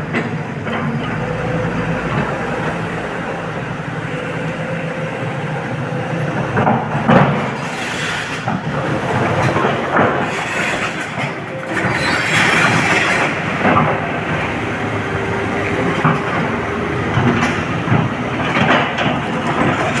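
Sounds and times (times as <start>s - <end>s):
excavator diesel engine: 0.0s - 20.0s.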